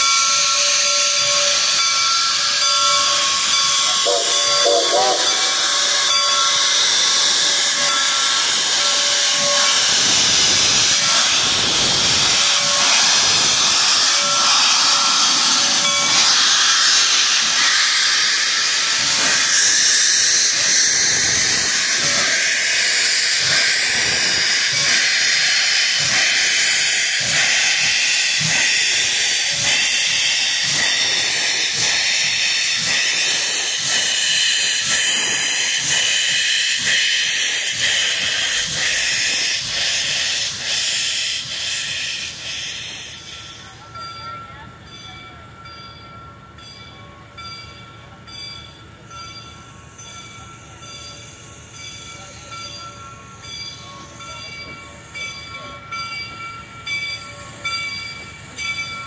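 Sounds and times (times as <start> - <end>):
steam locomotive hissing: 0.0 - 59.0.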